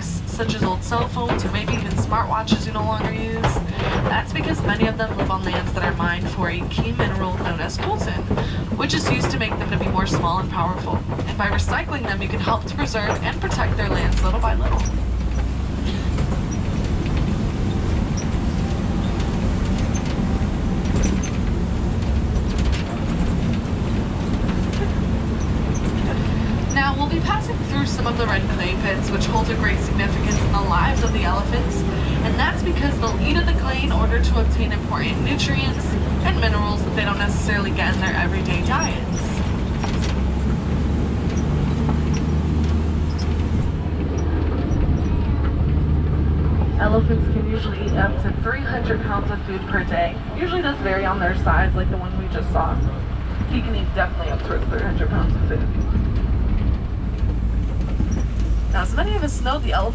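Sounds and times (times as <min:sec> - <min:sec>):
truck engine and road rumble: 0:00.0 - 0:59.9
faint clicks and rattles: 0:00.2 - 0:48.0, 0:52.3 - 0:59.5.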